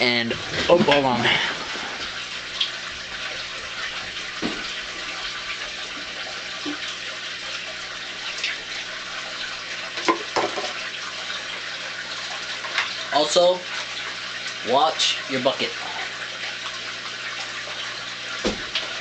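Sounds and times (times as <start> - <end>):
aquarium water splashing: 0.0 - 19.0.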